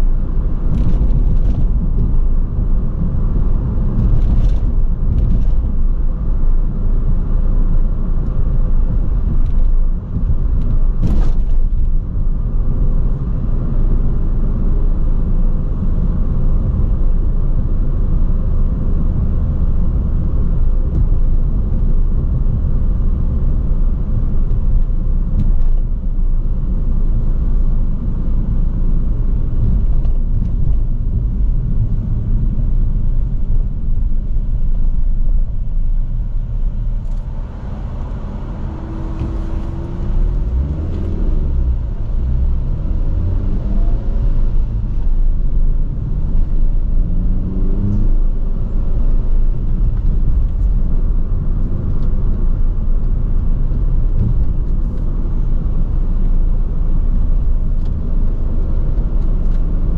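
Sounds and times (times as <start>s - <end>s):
sports car engine rumble: 0.0s - 59.9s.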